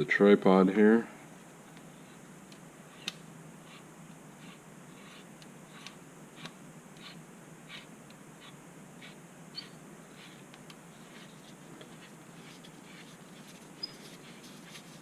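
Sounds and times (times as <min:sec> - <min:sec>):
scratchy rasps on threads: 0:02.9 - 0:15.0.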